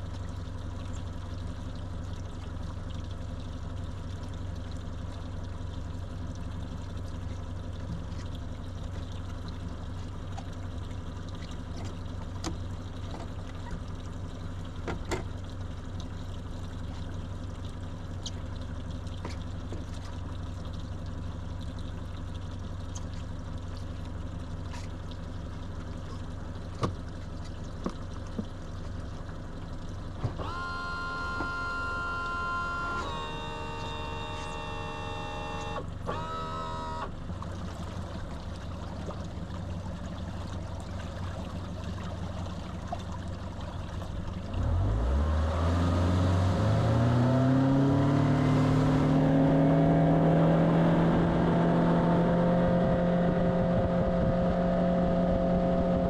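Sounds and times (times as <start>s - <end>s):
outboard motor: 0.0s - 56.0s.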